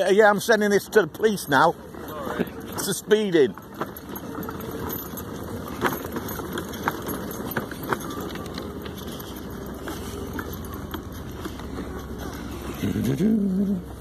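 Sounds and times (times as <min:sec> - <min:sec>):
mobility scooter rolling: 0:00.0 - 0:14.0.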